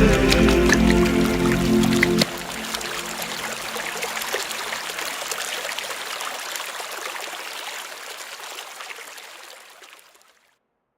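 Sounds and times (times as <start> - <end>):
stream trickling and splashing: 0.0 - 10.5.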